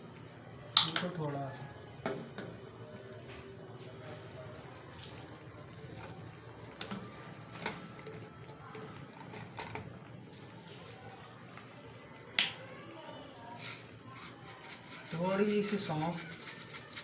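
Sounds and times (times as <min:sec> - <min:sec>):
sauce bubbling in a frying pan: 0:00.0 - 0:16.4.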